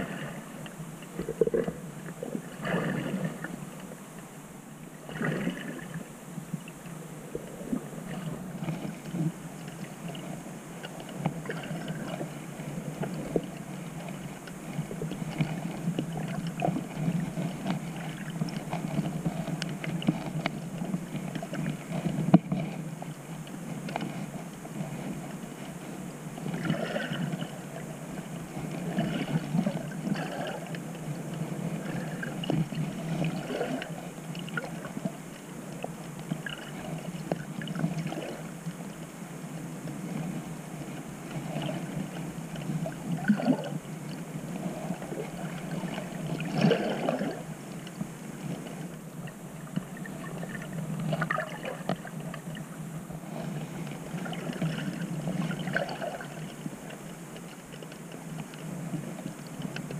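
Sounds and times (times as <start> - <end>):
small underwater clicks: 0.0 - 4.4, 5.0 - 59.9
underwater wash and gurgle: 0.0 - 59.9.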